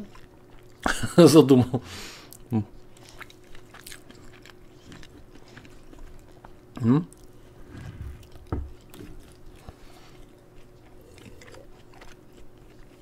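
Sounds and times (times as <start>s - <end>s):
biting and chewing pastry: 0.0s - 1.0s, 2.4s - 13.0s.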